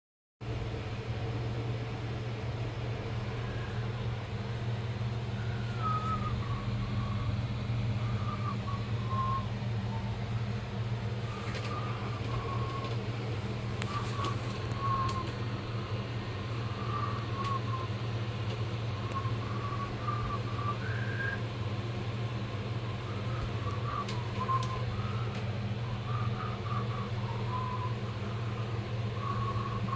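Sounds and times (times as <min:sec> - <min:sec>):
steady low hum: 0:00.4 - 0:29.9.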